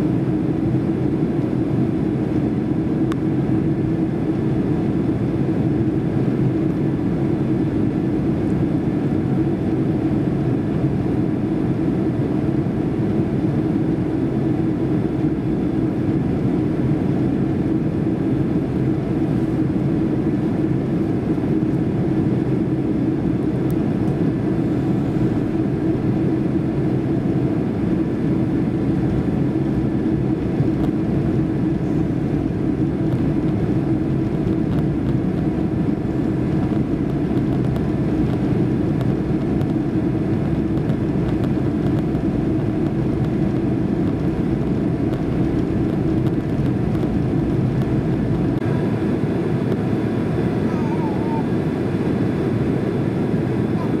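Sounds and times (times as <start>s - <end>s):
jet engines droning: 0.0s - 54.0s.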